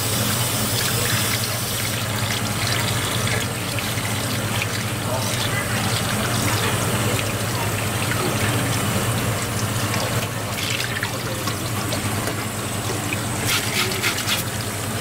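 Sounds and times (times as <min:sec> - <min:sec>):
tap water splashing in sink: 0:00.0 - 0:15.0.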